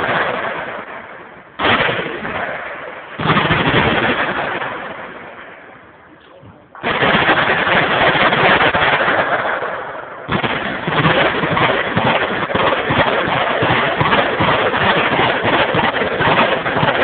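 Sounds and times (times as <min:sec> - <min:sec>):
machine gun fire: 0:00.0 - 0:05.8, 0:06.8 - 0:17.0.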